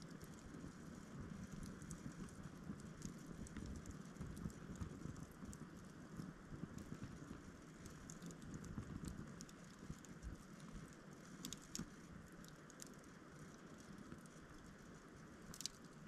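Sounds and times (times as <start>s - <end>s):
campfire crackling: 0.0s - 16.0s
fire snapping: 0.0s - 16.0s.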